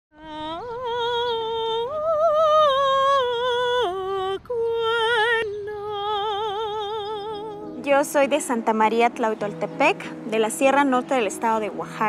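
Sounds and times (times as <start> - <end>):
soprano singing: 0.1 - 12.0.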